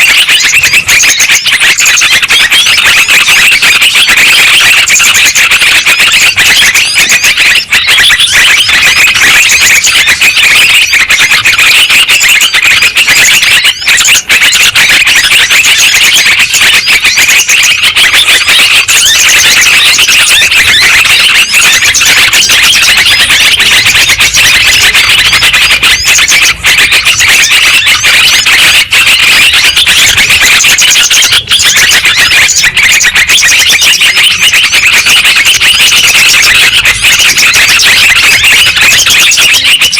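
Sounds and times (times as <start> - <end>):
chorus of chattering bird calls: 0.0 - 39.9.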